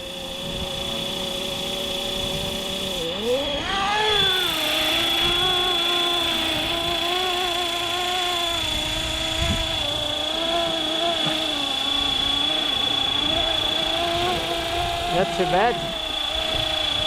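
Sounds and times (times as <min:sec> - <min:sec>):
helicopter rotor buzzing: 0:00.0 - 0:17.0
high whine: 0:00.0 - 0:17.0.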